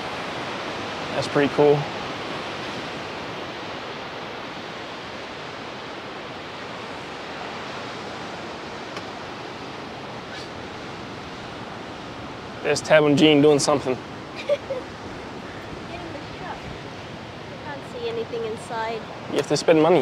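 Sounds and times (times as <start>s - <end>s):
ocean surf: 0.0s - 20.0s.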